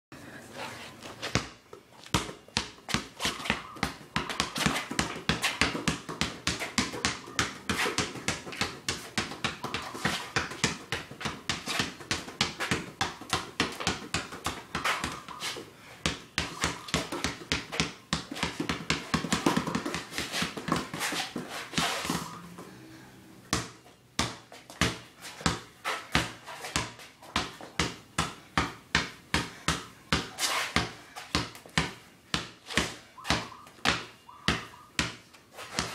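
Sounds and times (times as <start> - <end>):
basketball dribbling on concrete: 1.2 - 22.6, 23.5 - 35.9.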